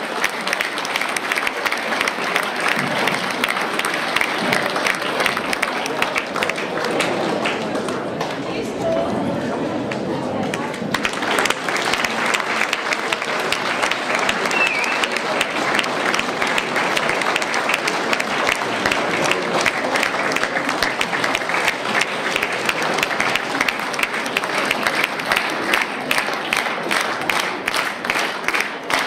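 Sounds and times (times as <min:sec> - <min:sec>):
audience applauding: 0:00.0 - 0:08.6, 0:09.9 - 0:29.0.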